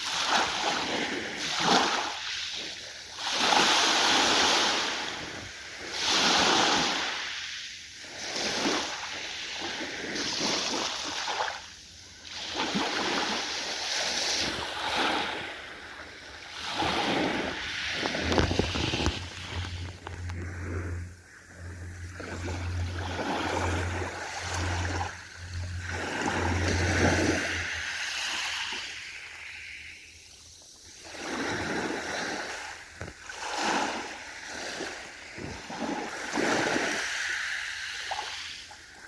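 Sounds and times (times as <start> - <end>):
ocean waves washing in: 0.0 - 39.0.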